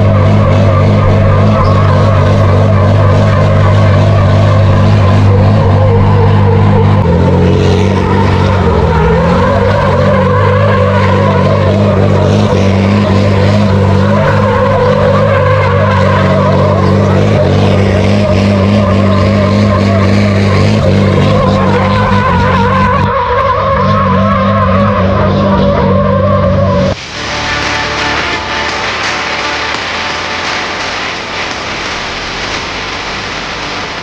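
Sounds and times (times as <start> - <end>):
tyres squealing: 0.0 - 32.9
truck diesel engine revving: 0.0 - 34.0.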